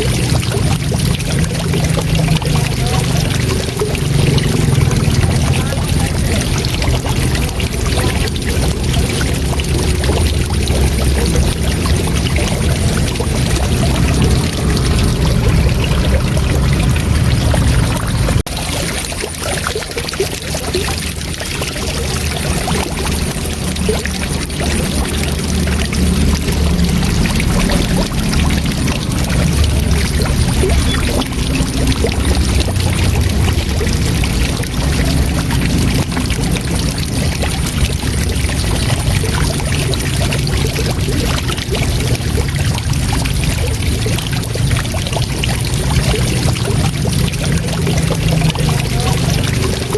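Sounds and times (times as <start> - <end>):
waterfall rumbling: 0.0 - 49.9.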